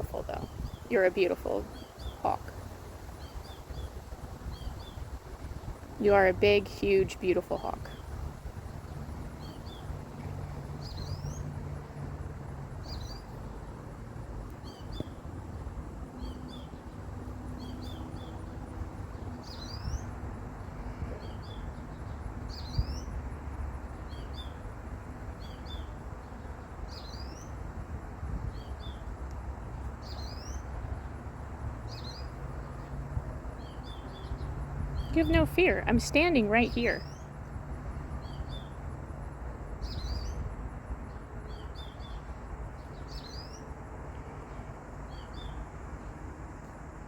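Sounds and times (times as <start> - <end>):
songbird chirping: 0.0 - 23.2, 25.3 - 27.6, 28.4 - 40.5, 41.1 - 46.1.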